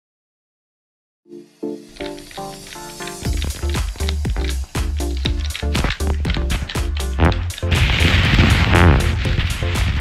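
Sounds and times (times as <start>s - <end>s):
background music with steady beat: 1.3s - 10.0s.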